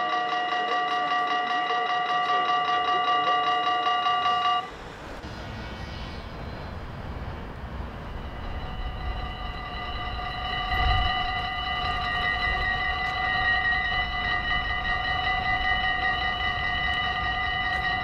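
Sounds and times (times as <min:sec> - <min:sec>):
level-crossing warning bells: 0:00.0 - 0:05.6, 0:06.2 - 0:18.0.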